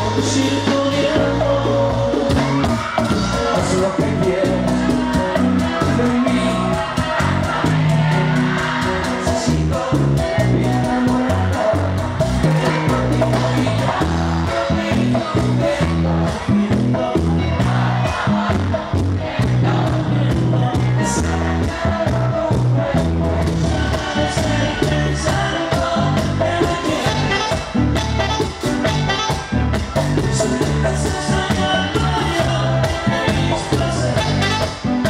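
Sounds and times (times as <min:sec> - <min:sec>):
person singing: 0:00.0 - 0:29.4, 0:30.2 - 0:35.0
bass line: 0:00.0 - 0:35.0
guitars playing: 0:00.0 - 0:35.0
quick busy percussion: 0:00.0 - 0:35.0.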